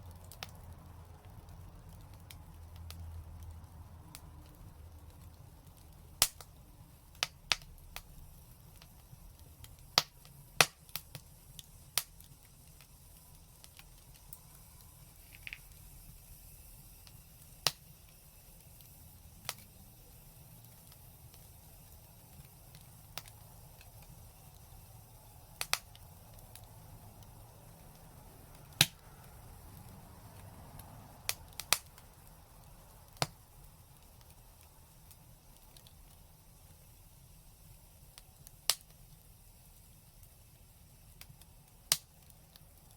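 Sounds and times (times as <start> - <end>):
faint low rumble: 0.0 - 36.7
fire crackling: 0.0 - 42.9.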